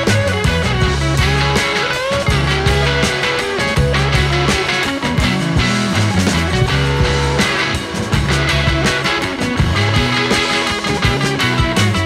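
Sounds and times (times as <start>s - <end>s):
bass and drum beat: 0.0s - 12.0s
rock music with guitar: 0.0s - 12.0s.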